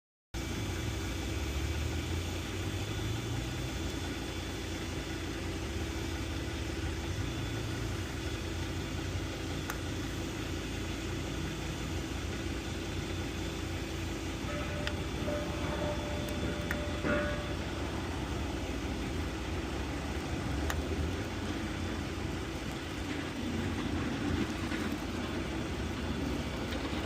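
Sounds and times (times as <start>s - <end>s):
low engine hum: 0.4s - 27.0s.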